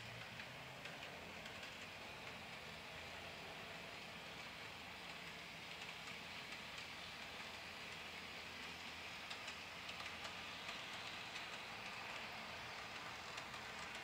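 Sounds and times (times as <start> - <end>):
model train rolling on track: 0.0 - 14.0
wheels clicking on rails: 0.0 - 14.0.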